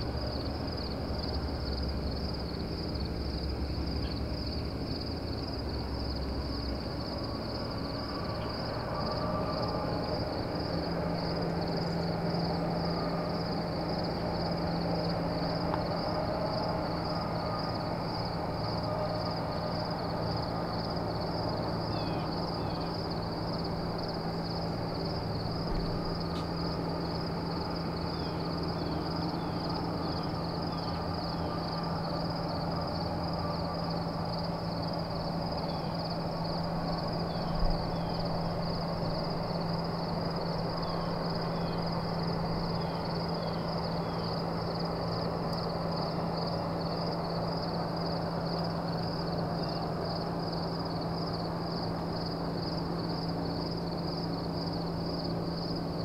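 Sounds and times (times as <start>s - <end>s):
high-pitched insect chorus: 0.0s - 56.0s
low steady hum: 0.0s - 56.0s.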